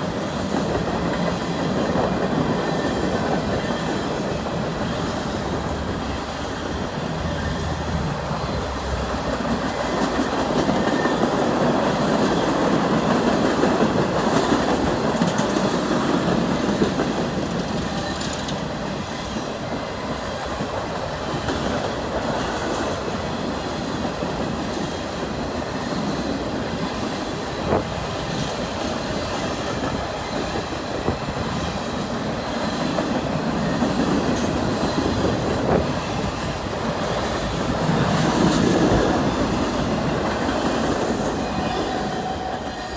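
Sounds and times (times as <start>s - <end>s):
freight train wheels clattering: 0.0s - 42.9s.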